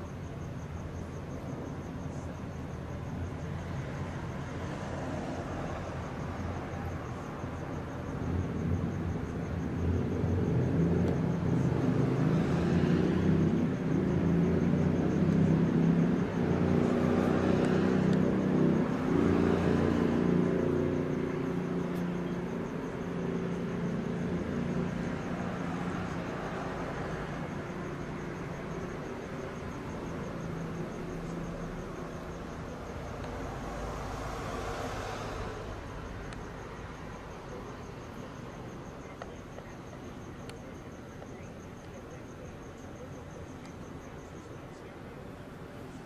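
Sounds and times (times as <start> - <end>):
passing vehicle: 1.0 - 46.0.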